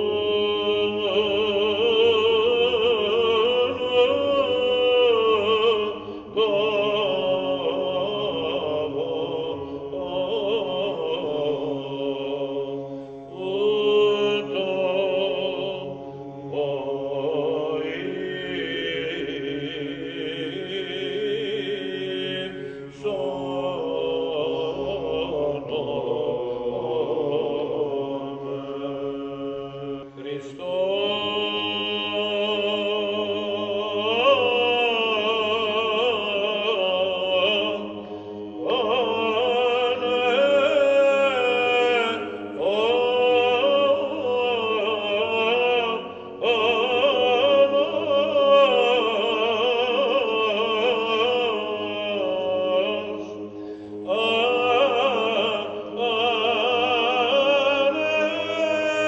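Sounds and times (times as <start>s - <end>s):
men singing chant melody: 0.0s - 59.0s.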